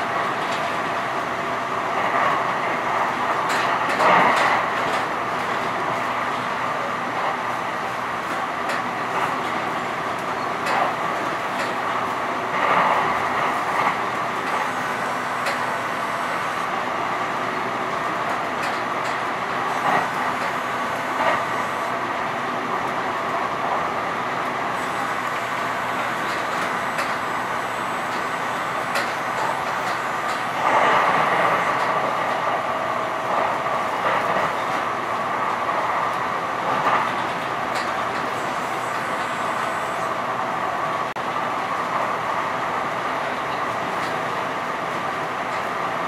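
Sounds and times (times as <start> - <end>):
train running on track: 0.0 - 46.0.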